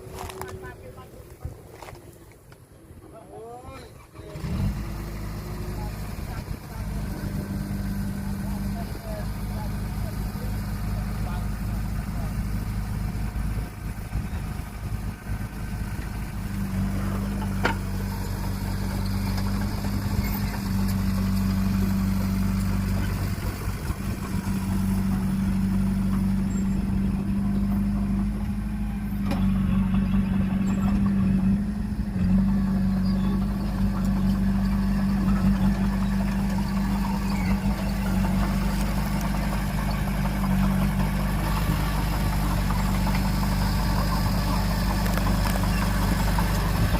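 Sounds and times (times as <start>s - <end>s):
diesel engine humming: 0.0s - 46.9s.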